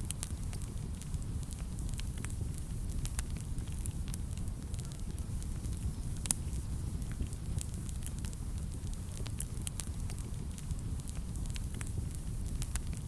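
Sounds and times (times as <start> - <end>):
fire crackling and popping: 0.0 - 13.0
fire flames rumbling: 0.0 - 13.0.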